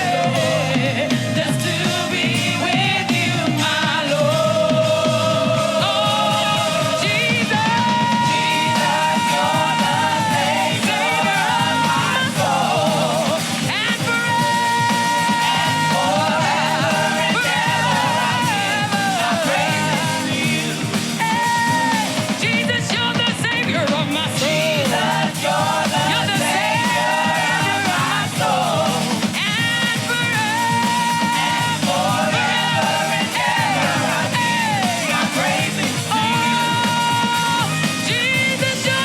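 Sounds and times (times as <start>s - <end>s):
gospel band playing with singing: 0.0s - 39.0s.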